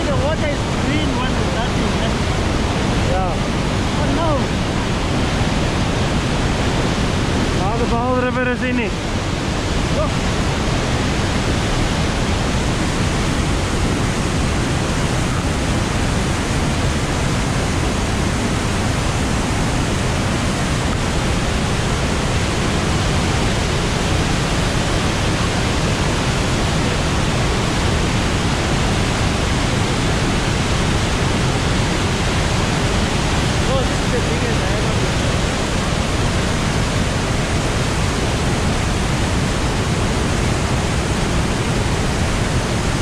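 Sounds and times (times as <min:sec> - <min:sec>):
waterfall thundering: 0:00.0 - 0:43.0.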